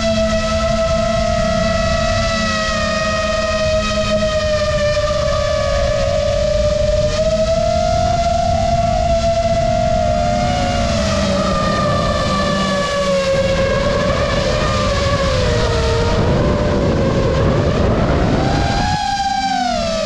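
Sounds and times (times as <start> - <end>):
drone motors whining: 0.0 - 20.0
wind noise: 0.0 - 20.0.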